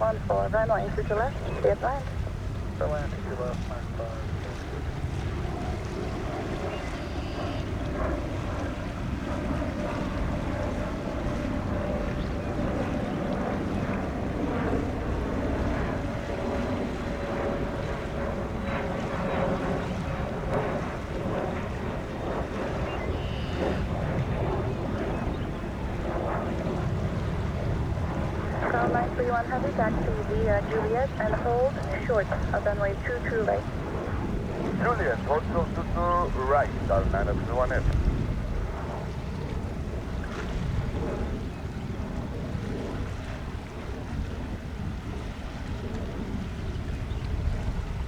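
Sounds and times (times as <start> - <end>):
faint engine whine: 0.0 - 40.1
jet engine rumble: 0.0 - 48.0
wind buffeting the microphone: 0.0 - 48.0.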